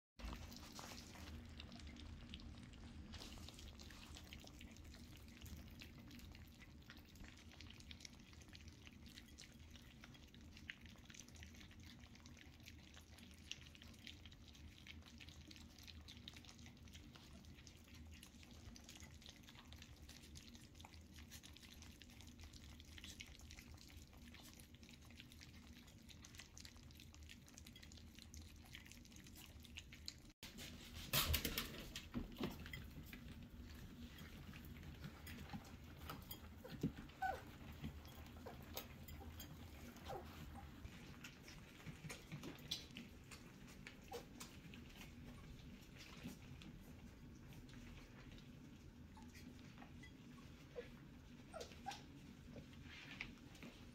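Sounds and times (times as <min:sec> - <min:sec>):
puppies lapping and smacking: 0:00.2 - 0:53.9.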